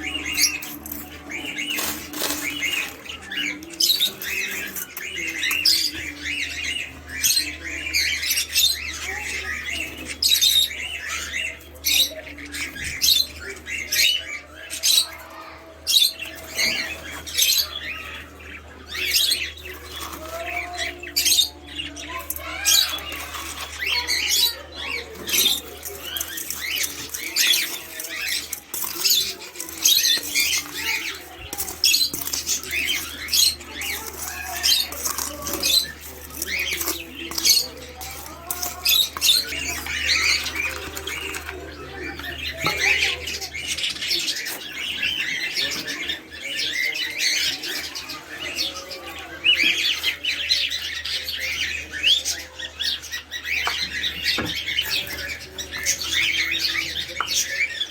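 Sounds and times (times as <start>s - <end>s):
cage birds chirping: 0.0s - 57.9s.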